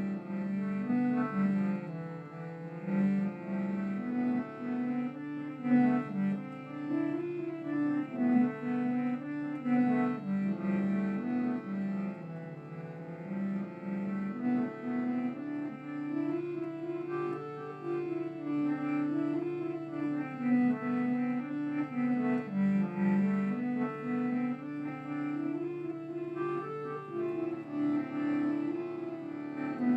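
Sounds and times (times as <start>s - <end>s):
slow instrumental melody: 0.0s - 29.9s.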